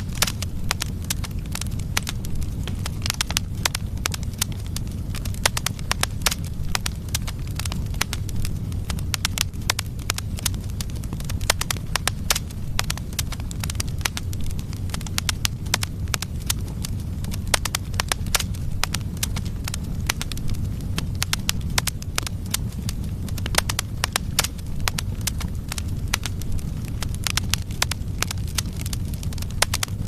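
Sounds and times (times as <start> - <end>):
fire flames rumbling: 0.0 - 30.0
wood pops and crackles: 0.0 - 30.0.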